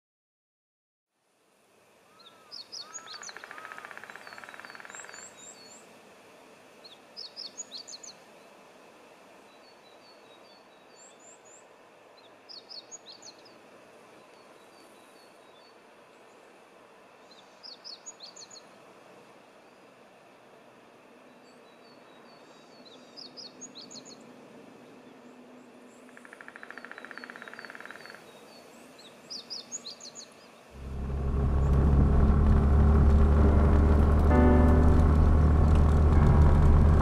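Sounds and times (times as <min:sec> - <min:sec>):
outdoor background hiss: 0:01.1 - 0:37.0.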